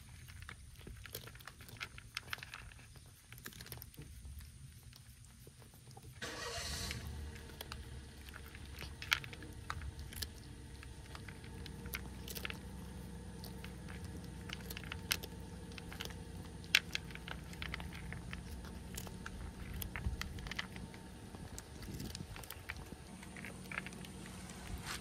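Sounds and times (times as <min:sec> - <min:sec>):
cats crunching food: 0:00.0 - 0:25.0
low background rumble: 0:00.0 - 0:25.0.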